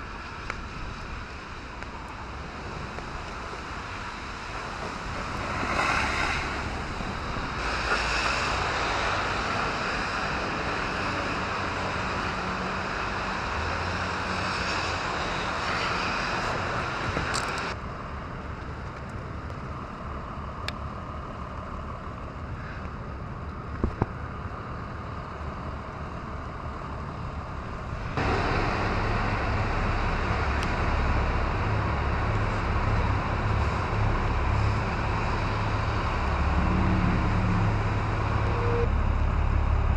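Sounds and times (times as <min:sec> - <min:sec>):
low engine rumble: 0:00.0 - 0:14.2, 0:14.8 - 0:39.9
vehicle and tyre noise: 0:00.0 - 0:39.9.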